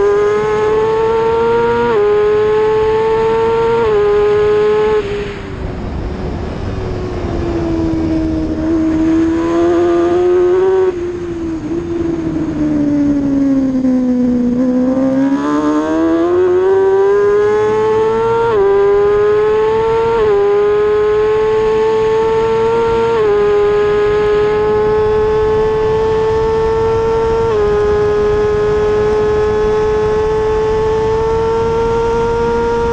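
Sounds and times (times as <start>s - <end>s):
race motorcycle engine revving: 0.0s - 5.0s, 7.5s - 32.9s.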